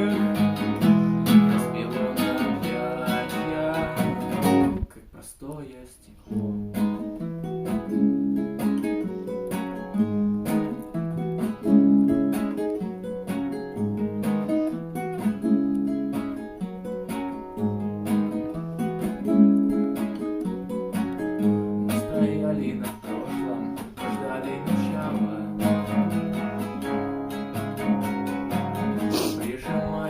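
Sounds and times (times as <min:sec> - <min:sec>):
acoustic guitar strumming: 0:00.0 - 0:04.9, 0:06.2 - 0:30.0.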